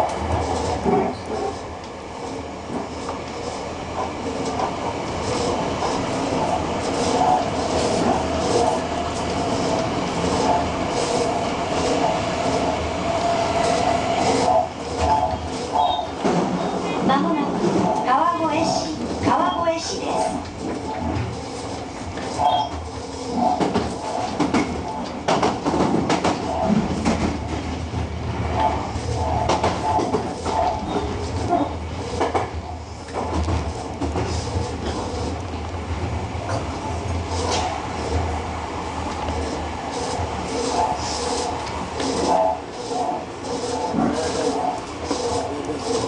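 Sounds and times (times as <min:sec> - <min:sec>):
electric train rolling rumble: 0:00.0 - 0:46.0.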